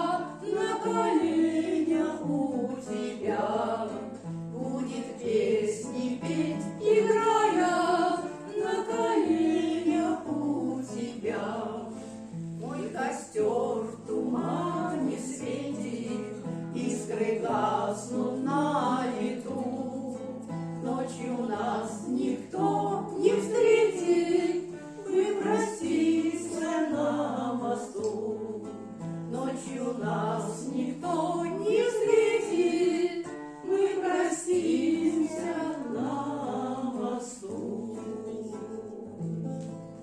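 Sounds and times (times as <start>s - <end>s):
voices singing slow song: 0.0s - 39.6s.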